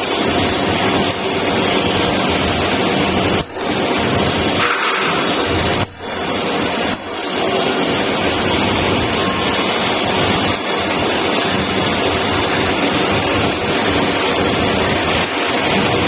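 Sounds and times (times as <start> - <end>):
welding arc hissing: 0.0 - 16.0.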